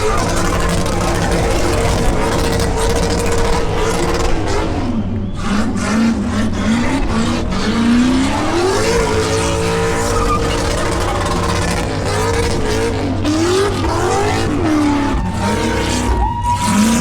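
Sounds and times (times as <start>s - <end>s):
car engine revving high: 0.0s - 17.0s
tires spinning: 0.0s - 17.0s.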